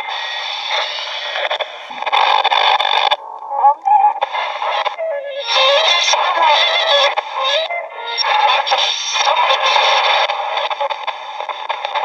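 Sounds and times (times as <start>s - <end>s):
thin radio music with singing: 0.0s - 12.0s.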